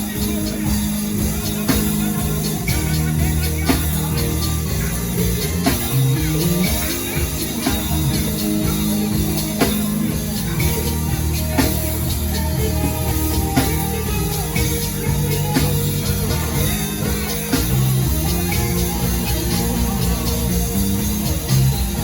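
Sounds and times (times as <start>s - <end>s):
bass: 0.0s - 22.0s
drum kit: 0.0s - 22.0s
guitar: 0.0s - 22.0s
heavy drum accents: 0.0s - 22.0s
sustained keyboard chords: 0.0s - 22.0s.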